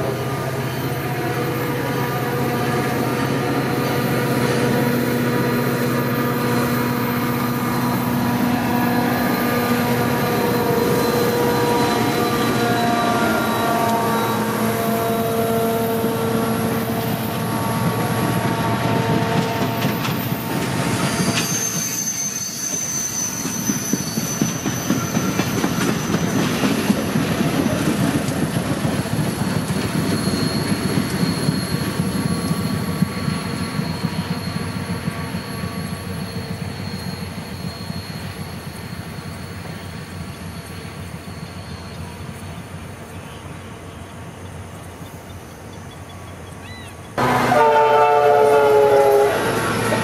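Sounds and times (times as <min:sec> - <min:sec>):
train wheels squealing: 0:00.0 - 0:47.2
train rolling on rails: 0:00.0 - 0:50.0.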